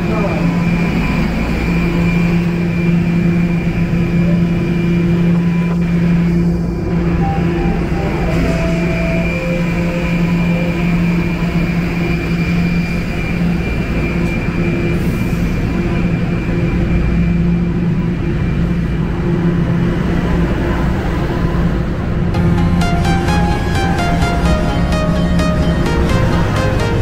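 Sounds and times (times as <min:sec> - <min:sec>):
subway train humming: 0:00.0 - 0:27.0.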